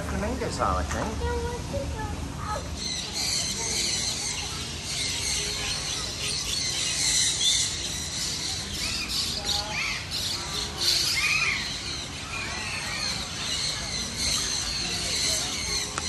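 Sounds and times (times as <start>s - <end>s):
birds chirping and squealing: 0.0s - 16.0s
steady background hiss: 0.0s - 16.0s.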